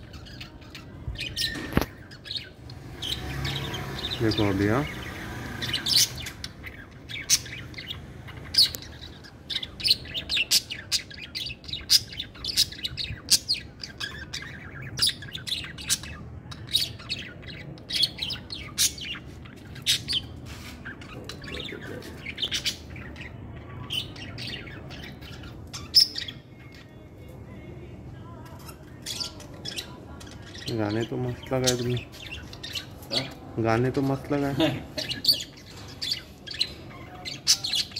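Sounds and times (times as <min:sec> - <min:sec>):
parakeets chirping: 0:00.0 - 0:37.9.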